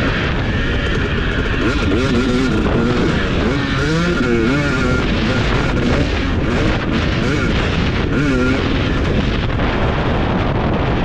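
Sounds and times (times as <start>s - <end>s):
motocross bike engine revving: 0.0s - 11.0s
steady rush of noise: 0.0s - 11.0s.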